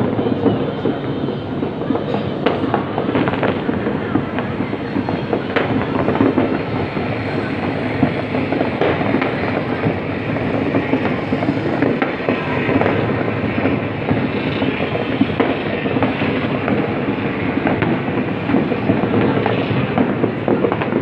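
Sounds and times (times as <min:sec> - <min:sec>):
distant fireworks crackling: 0:00.0 - 0:21.0
sharp firework bangs: 0:00.0 - 0:21.0.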